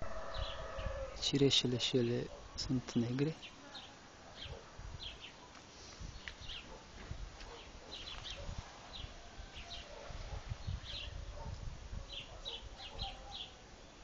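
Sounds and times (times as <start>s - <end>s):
small birds chirping: 0.3s - 14.0s.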